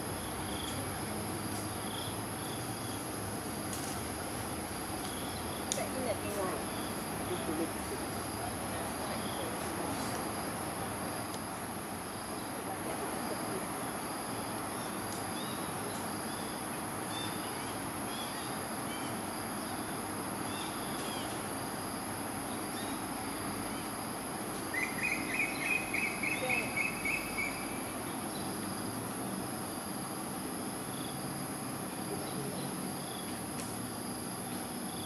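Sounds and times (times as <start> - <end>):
chorus of crickets and insects: 0.0 - 35.0.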